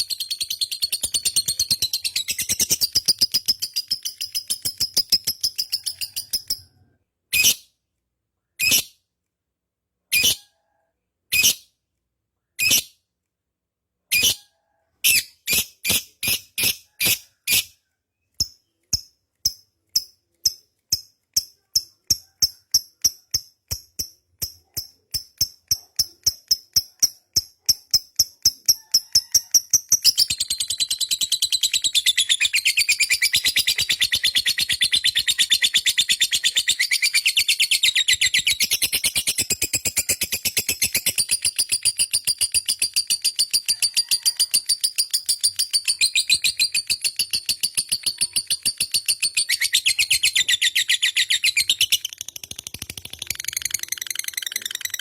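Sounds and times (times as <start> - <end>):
lovebird chirping: 0.0 - 7.6, 14.1 - 55.0.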